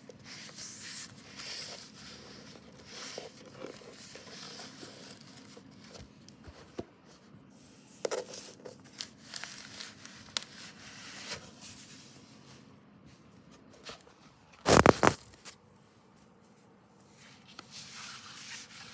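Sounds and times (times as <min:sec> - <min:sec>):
paper and plastic rustling: 0:00.0 - 0:15.6, 0:17.0 - 0:18.9.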